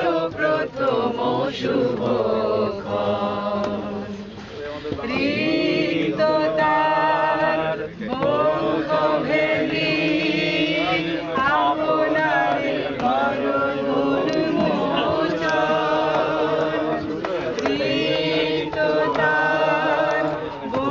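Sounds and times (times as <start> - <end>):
group of men and women singing: 0.0 - 20.9.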